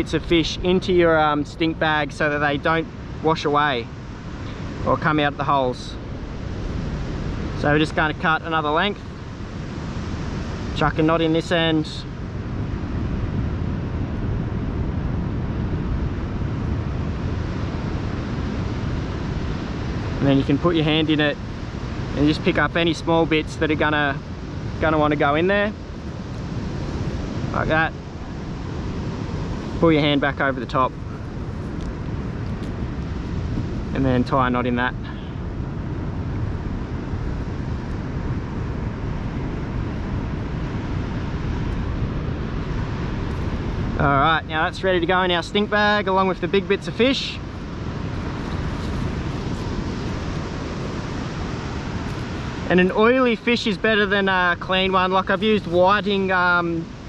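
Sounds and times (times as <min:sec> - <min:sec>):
surf: 0:00.0 - 0:57.0
wind buffeting microphone: 0:00.0 - 0:57.0.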